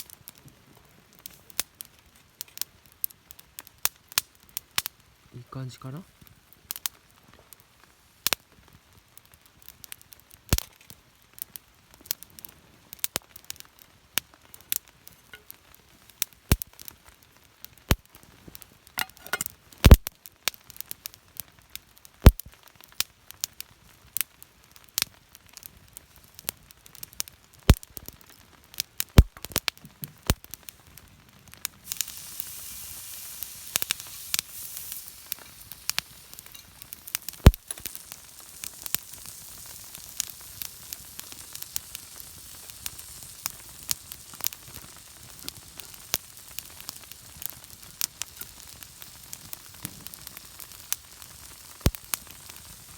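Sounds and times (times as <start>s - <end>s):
campfire crackling and popping: 0.0s - 52.9s
steady sizzling hiss: 0.0s - 52.9s.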